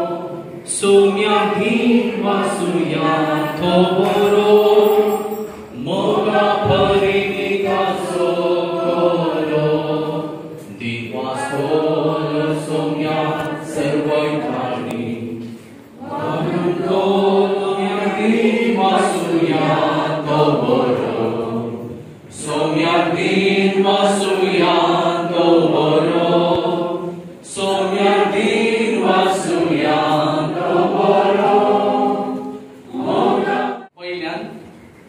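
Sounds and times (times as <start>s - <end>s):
group singing a hymn unaccompanied: 0.0s - 34.0s.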